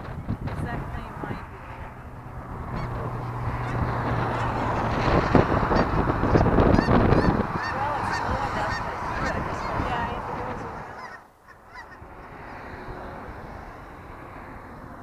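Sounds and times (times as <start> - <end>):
wind rumbling on microphone: 0.0 - 15.0
geese honking: 1.0 - 13.3.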